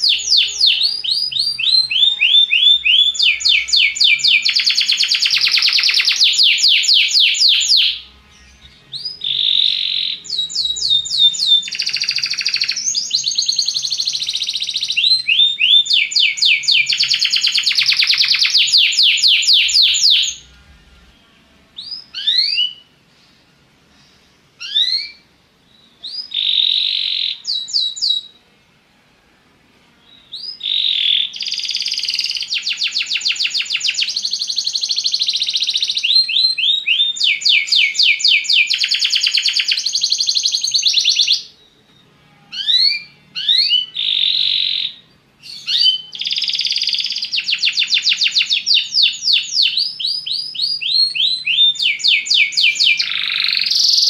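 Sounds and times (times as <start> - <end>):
canary singing fast trills: 0.0 - 22.9, 24.6 - 28.4, 30.0 - 54.0.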